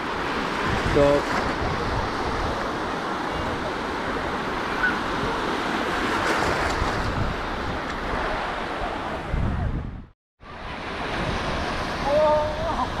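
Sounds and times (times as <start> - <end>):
small waves washing on sand: 0.0 - 9.3, 10.4 - 13.0
wind rumbling on microphone: 0.0 - 13.0.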